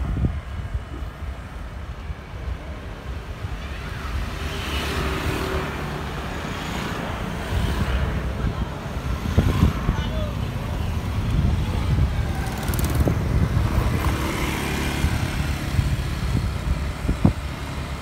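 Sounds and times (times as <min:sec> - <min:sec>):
wind rumbling on microphone: 0:00.0 - 0:18.0
motor scooters passing: 0:03.2 - 0:18.0.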